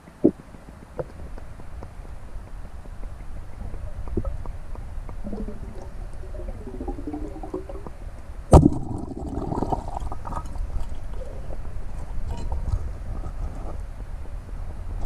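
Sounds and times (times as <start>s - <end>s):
underwater water noise: 0.0s - 15.0s.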